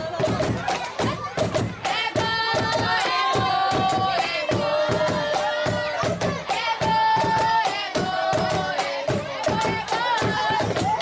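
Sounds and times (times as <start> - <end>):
steady drumbeat: 0.0 - 11.0
voices singing long notes: 1.9 - 11.0.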